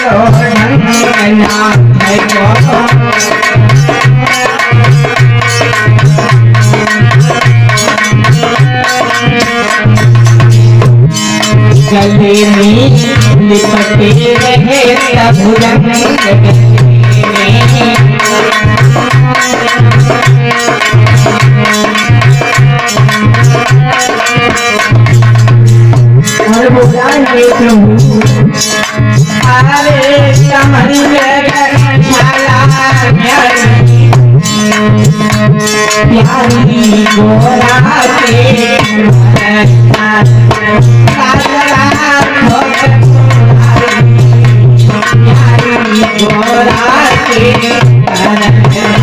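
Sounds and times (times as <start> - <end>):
instrumental melody line: 0.0 - 49.0
quick drum rhythm: 0.0 - 49.0.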